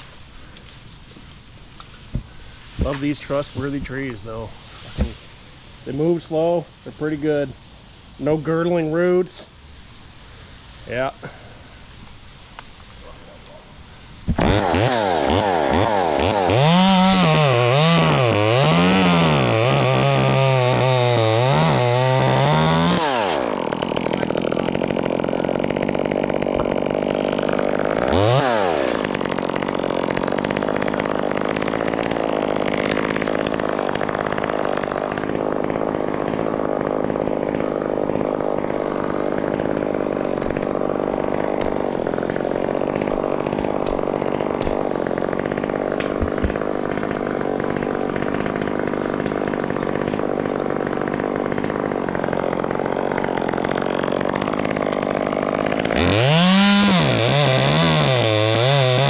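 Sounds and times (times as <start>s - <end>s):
chainsaw cutting wood: 0.0s - 7.4s, 14.2s - 59.0s.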